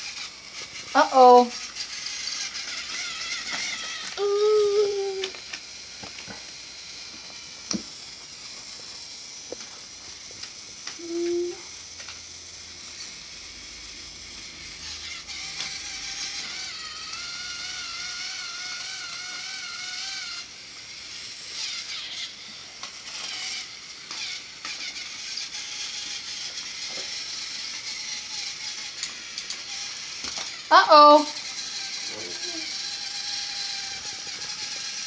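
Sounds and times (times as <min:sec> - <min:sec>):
toy handling clicks: 0:00.0 - 0:08.4, 0:09.0 - 0:35.0
toy train motor whirring: 0:00.0 - 0:35.0.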